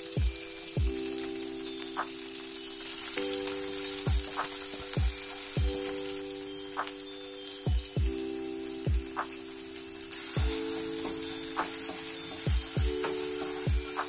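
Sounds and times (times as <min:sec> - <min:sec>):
background music with steady beat: 0:00.0 - 0:14.0
onions sizzling in hot oil: 0:00.0 - 0:14.0.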